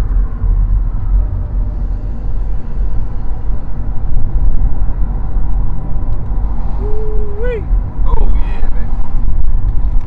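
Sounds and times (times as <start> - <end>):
car engine rumble: 0.0 - 10.0
road noise: 0.0 - 10.0
wind buffeting microphone: 0.0 - 10.0.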